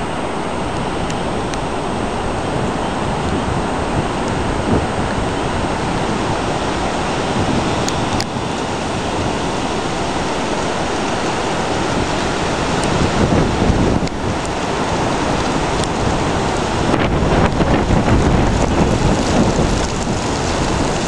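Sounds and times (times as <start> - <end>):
gusty wind buffeting microphone: 0.0 - 21.0.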